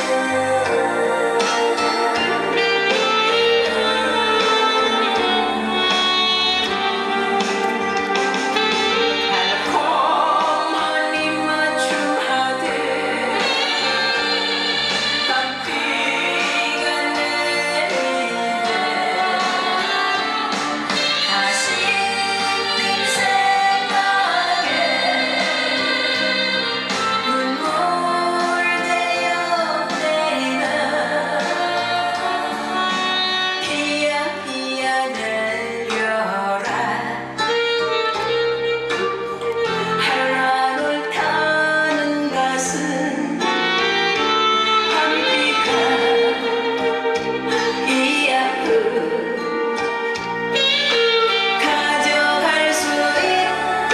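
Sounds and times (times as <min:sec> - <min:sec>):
instrumental accompaniment: 0:00.0 - 0:53.9
woman singing: 0:00.0 - 0:53.9.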